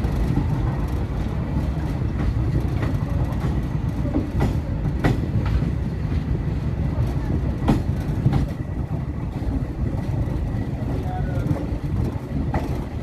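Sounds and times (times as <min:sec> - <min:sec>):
train rumbling on rails: 0:00.0 - 0:13.0
wheels clacking over rail joints: 0:00.0 - 0:13.0.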